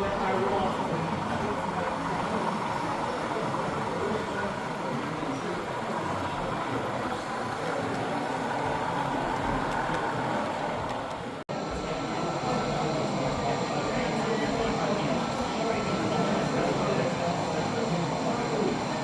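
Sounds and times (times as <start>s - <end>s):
background din of a hall: 0.0s - 19.0s
model trains running: 0.0s - 19.0s.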